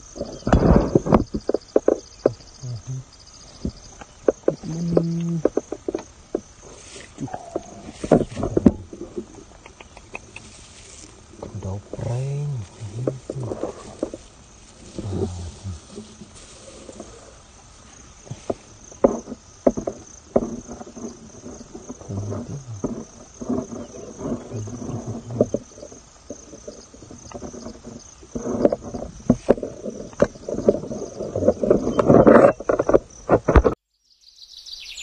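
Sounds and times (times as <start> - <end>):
rustling of grass: 0.0 - 33.5
insects chirping: 0.0 - 35.0.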